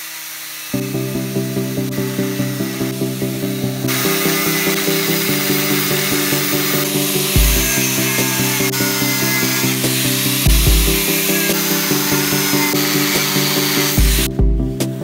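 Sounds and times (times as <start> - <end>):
angle grinder cutting steel: 0.0 - 14.4
background music with bass: 0.8 - 15.0.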